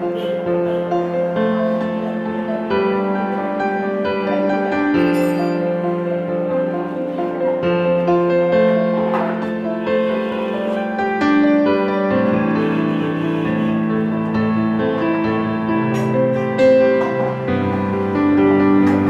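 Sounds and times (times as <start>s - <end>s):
instrumental keyboard music: 0.0s - 19.0s.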